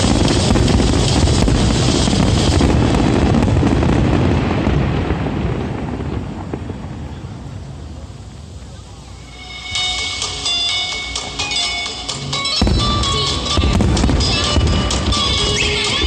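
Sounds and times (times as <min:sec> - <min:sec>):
fireworks booms and crackle: 0:00.0 - 0:11.2, 0:12.3 - 0:16.0.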